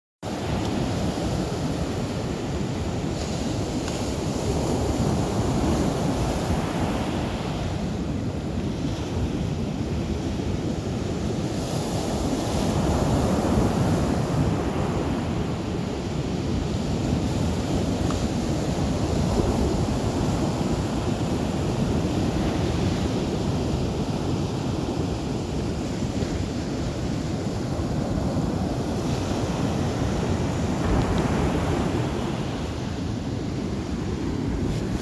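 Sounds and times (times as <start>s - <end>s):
wind: 0.2s - 35.0s
ocean surf washing ashore: 0.3s - 35.0s.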